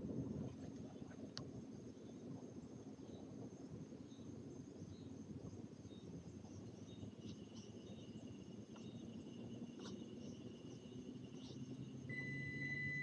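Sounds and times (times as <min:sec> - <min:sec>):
insects trilling: 0:00.6 - 0:13.0.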